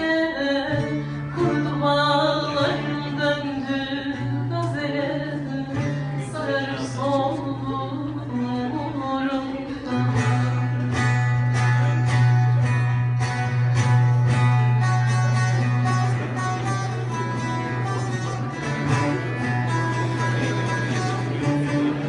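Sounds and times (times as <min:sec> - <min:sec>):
long-necked lute playing: 0:00.0 - 0:22.0.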